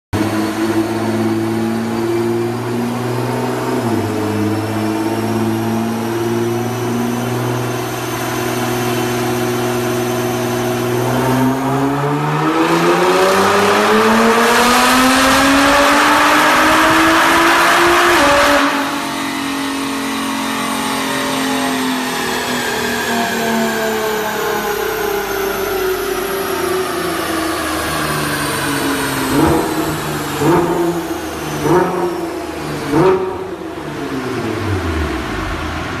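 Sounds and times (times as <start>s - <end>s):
car engine revving: 0.2s - 36.0s.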